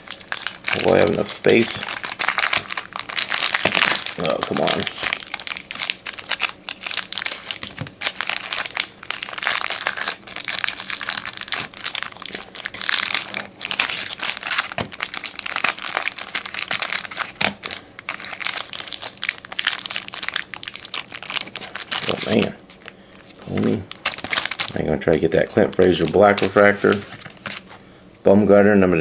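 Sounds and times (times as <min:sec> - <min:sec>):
plastic packaging crinkling: 0:00.0 - 0:27.8.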